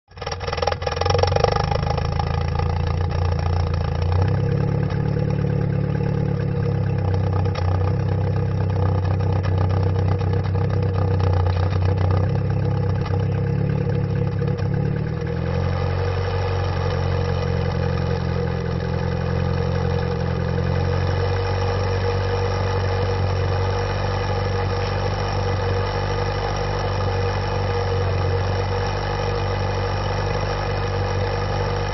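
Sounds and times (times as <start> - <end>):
car engine idling: 0.1 - 31.9.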